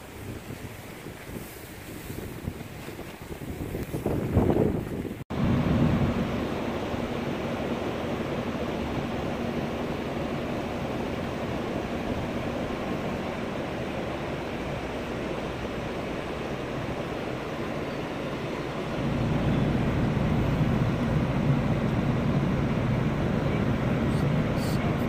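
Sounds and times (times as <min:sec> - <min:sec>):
ocean surf: 0:00.0 - 0:25.0
wind: 0:00.0 - 0:25.0.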